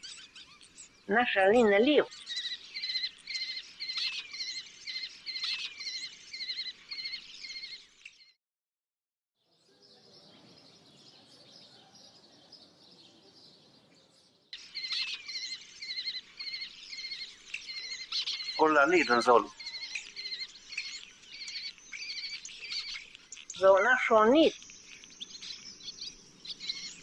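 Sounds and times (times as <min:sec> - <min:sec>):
bird chirping call: 0:00.0 - 0:08.4, 0:09.4 - 0:27.0.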